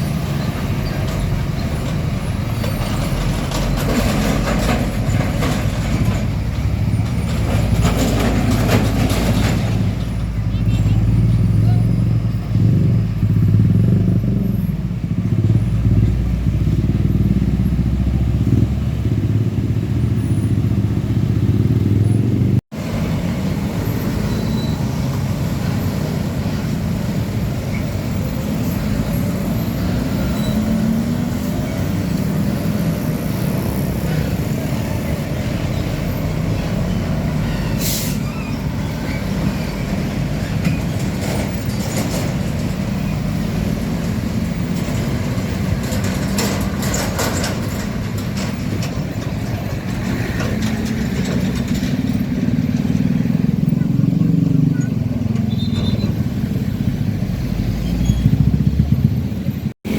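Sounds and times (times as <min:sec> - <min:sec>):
heavy diesel truck engines: 0:00.0 - 0:59.9
steady traffic: 0:00.0 - 0:59.9.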